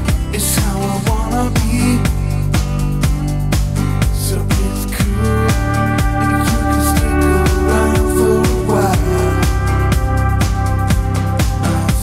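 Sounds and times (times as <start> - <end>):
music with steady beat: 0.0 - 12.0
sustained bass line: 0.0 - 12.0.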